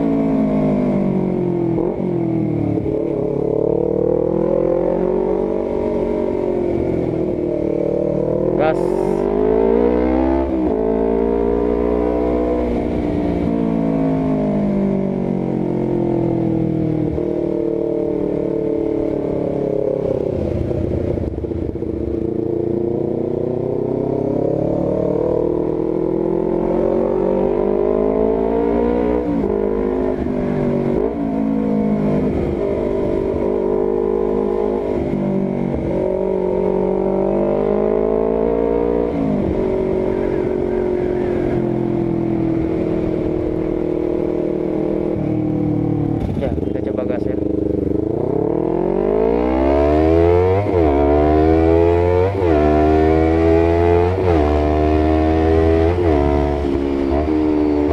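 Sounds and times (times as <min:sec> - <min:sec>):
motorcycle accelerating hard: 0:00.0 - 0:57.9.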